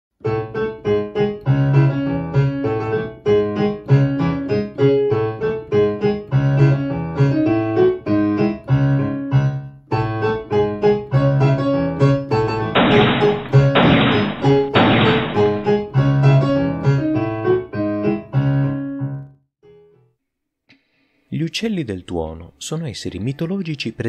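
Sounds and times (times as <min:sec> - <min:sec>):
piano music: 0:00.2 - 0:20.0.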